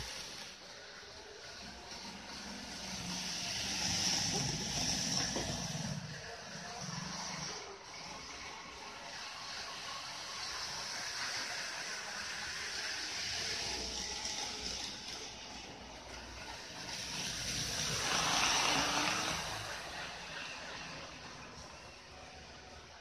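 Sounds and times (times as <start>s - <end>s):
model train whirring on track: 0.0s - 23.0s.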